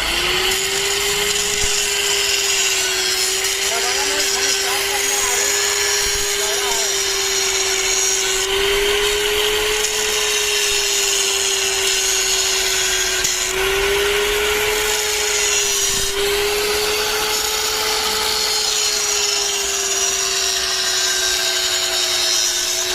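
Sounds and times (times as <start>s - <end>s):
angle grinder grinding steel: 0.0s - 22.9s.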